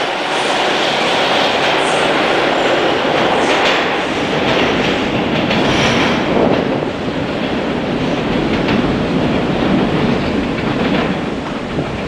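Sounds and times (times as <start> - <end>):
subway train rumbling and rattling: 0.0 - 12.0.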